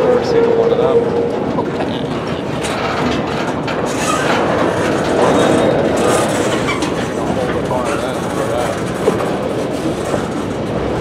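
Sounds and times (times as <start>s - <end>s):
train wheels rumbling and clicking: 0.0s - 11.0s.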